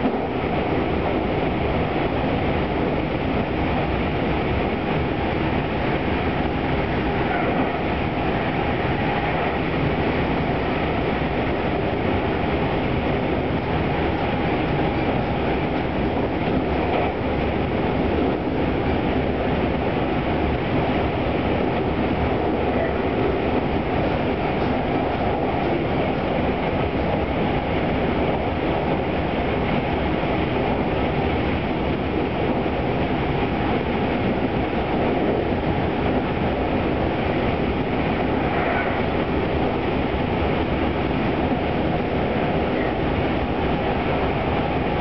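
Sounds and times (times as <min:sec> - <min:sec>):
electric train running at speed: 0:00.0 - 0:45.0
wheels rumbling on rails: 0:00.0 - 0:45.0.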